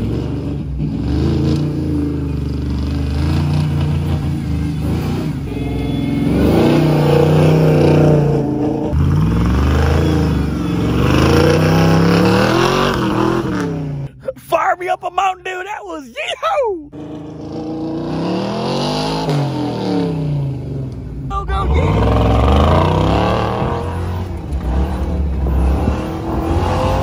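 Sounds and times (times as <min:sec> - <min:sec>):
truck engine revving hard: 0:00.0 - 0:14.2, 0:17.0 - 0:27.0.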